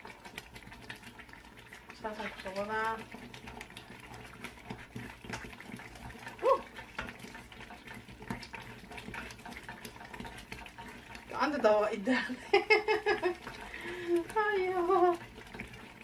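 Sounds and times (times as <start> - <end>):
wooden spoon scraping a pot: 0.0 - 16.0.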